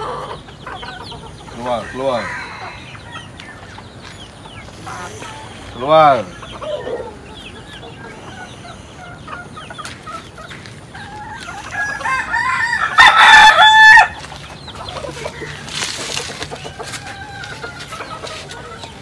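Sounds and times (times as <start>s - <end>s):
chicken drawn-out call: 0.0s - 19.0s
chickens clucking: 0.0s - 19.0s.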